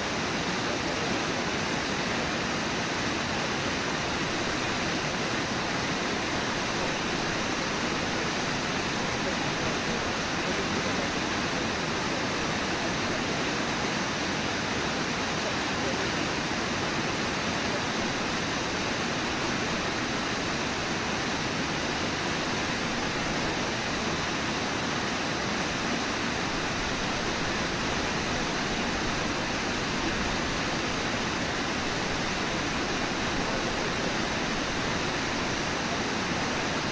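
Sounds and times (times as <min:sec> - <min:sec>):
river water over waterfall: 0:00.0 - 0:36.9.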